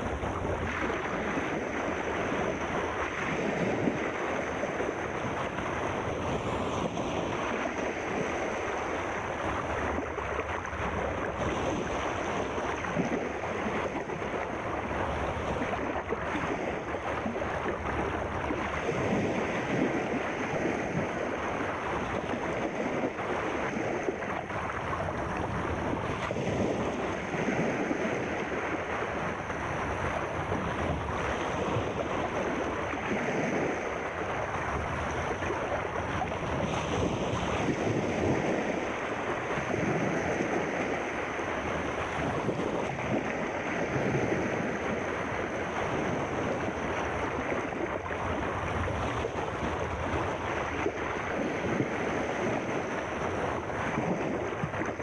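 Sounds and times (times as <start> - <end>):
sea surf washing: 0.0 - 55.0.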